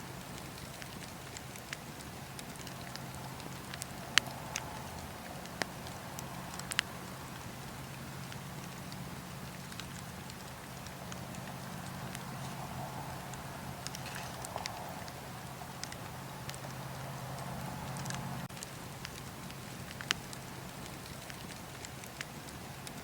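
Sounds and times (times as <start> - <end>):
fire crackling and popping: 0.0 - 23.0
wood fire hissing: 0.0 - 23.0.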